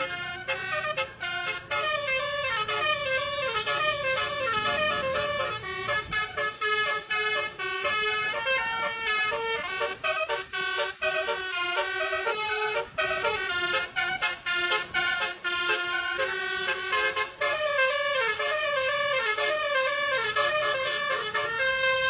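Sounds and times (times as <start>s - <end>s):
horn-like tones playing a tune: 0.0s - 22.0s.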